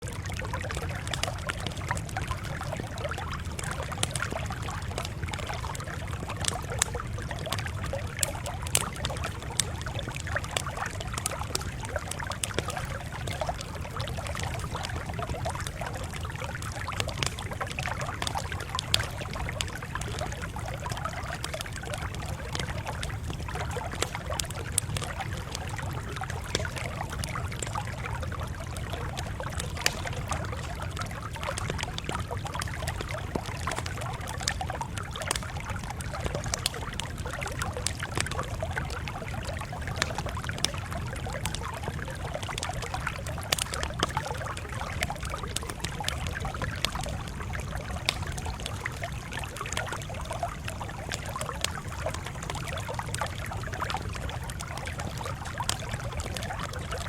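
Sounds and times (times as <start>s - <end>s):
campfire crackling and popping: 0.0s - 57.0s
fire low rumble: 0.0s - 57.0s.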